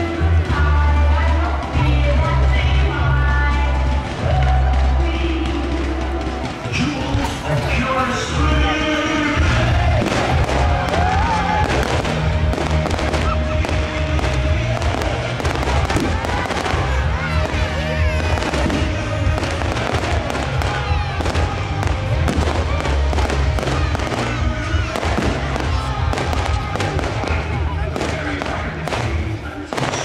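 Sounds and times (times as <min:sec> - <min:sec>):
music playing: 0:00.0 - 0:30.0
fireworks bangs and crackles: 0:03.4 - 0:30.0.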